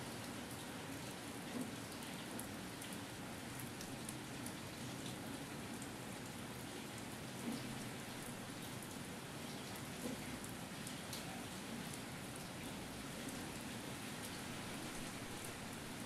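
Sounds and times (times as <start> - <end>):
light drizzle: 0.0 - 16.0.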